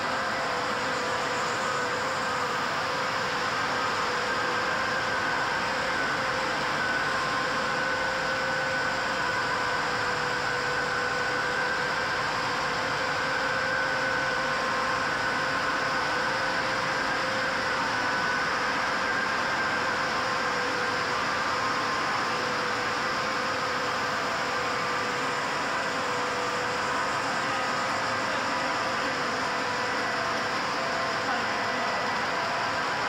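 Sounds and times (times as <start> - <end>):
high-pitched machine whine: 0.0 - 33.0.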